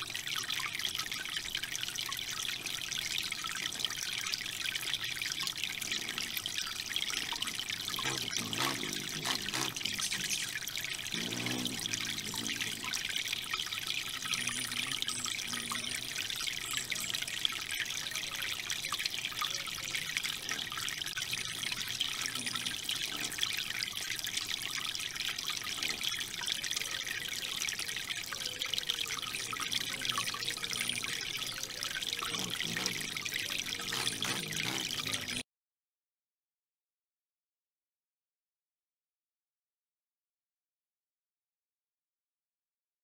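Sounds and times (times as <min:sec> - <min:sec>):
fountain water splashing: 0:00.0 - 0:35.4.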